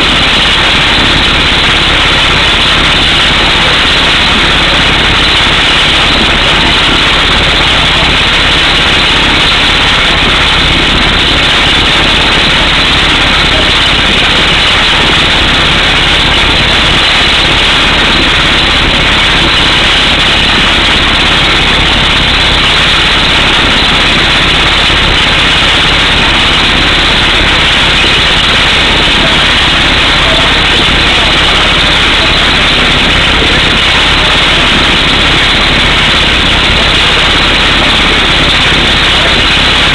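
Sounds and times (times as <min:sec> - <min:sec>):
air hammer drilling rock: 0:00.0 - 0:39.9.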